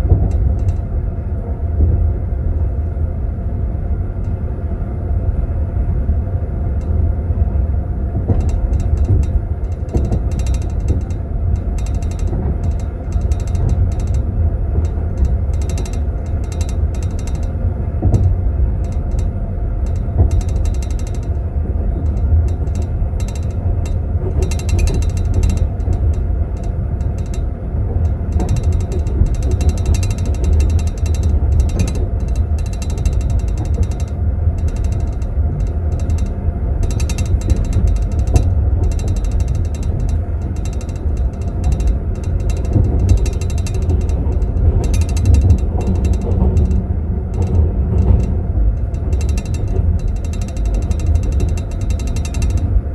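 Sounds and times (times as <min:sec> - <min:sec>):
train rumble: 0:00.0 - 0:52.9.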